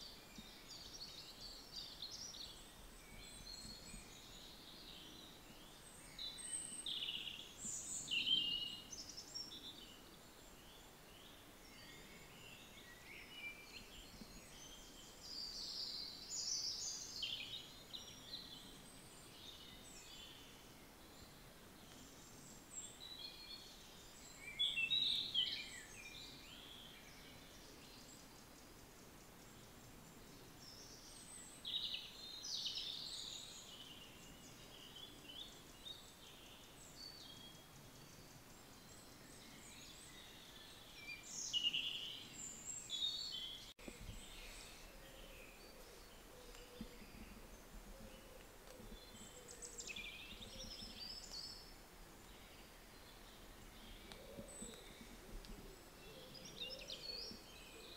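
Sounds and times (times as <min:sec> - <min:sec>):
faint hiss: 0:00.0 - 0:57.9.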